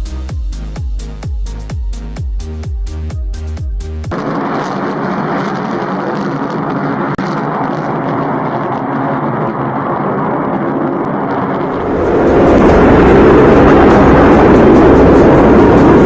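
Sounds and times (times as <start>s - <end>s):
aircraft engines running: 0.0s - 16.0s.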